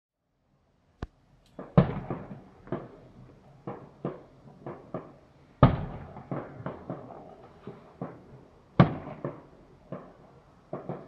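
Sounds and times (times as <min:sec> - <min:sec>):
fireworks exploding: 0:01.6 - 0:11.0.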